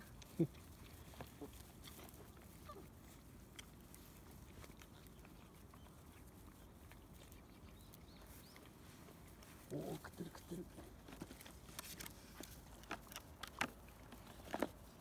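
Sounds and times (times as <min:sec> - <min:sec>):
puppies eating from plastic trays: 0:00.0 - 0:15.0.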